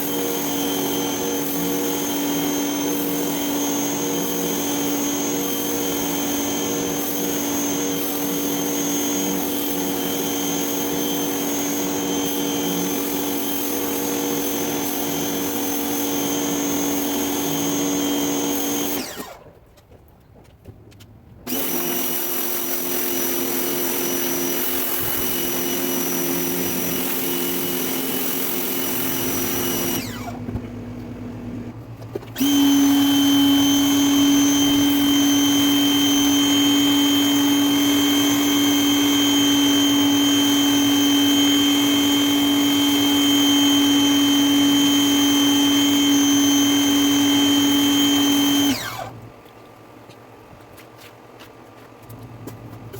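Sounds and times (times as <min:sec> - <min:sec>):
pressure washer motor hum: 0:00.0 - 0:19.5, 0:21.5 - 0:49.5.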